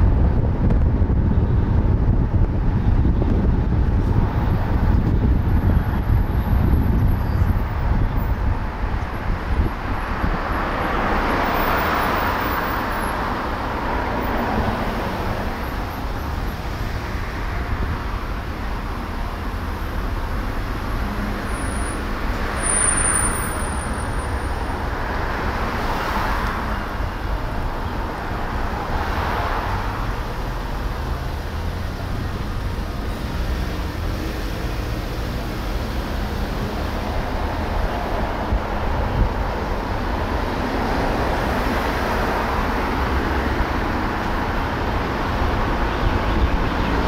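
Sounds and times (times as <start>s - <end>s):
car road noise rumble: 0.0s - 47.0s.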